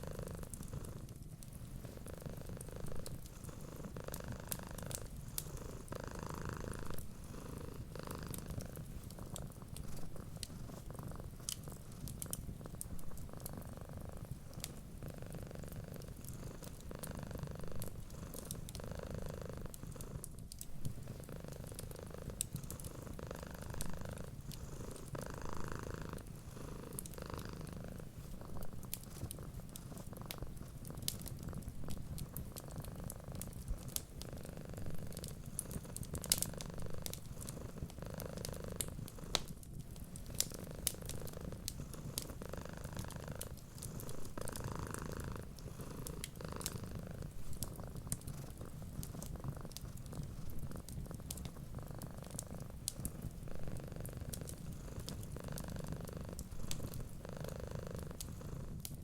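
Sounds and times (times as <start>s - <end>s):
cat purring: 0.0s - 59.0s
wood fire crackling and popping: 0.0s - 59.0s.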